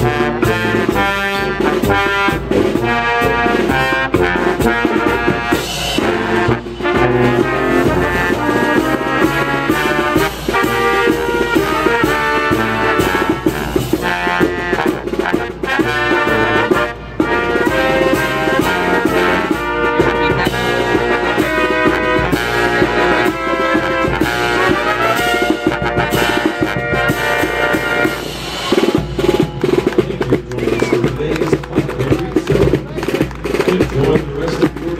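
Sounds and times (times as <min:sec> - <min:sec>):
brass band playing: 0:00.0 - 0:34.9.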